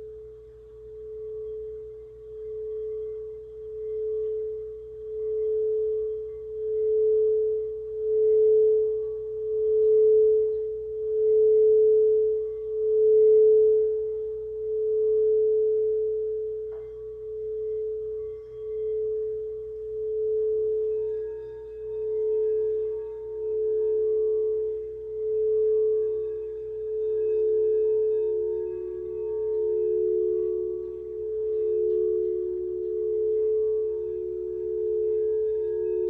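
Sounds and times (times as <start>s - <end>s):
second singing bowl lower tone: 0.0s - 36.0s
singing bowl pulsing tone: 0.0s - 36.0s.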